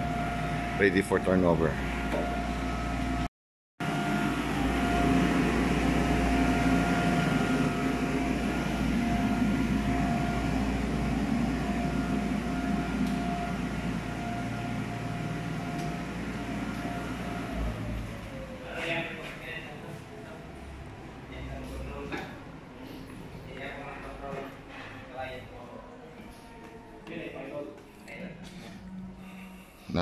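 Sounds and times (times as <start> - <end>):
ventilation fans humming: 0.0 - 30.0.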